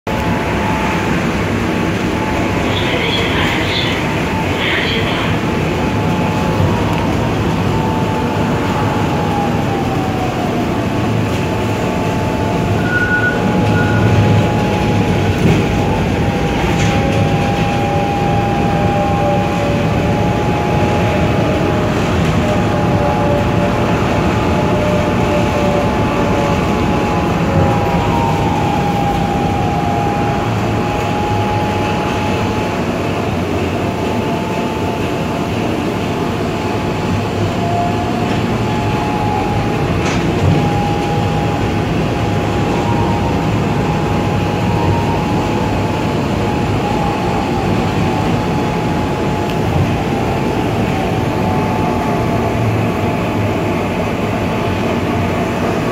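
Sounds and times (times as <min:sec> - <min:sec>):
high motor whine: 0:00.1 - 0:55.9
tram wheels rumbling on rails: 0:00.1 - 0:55.9.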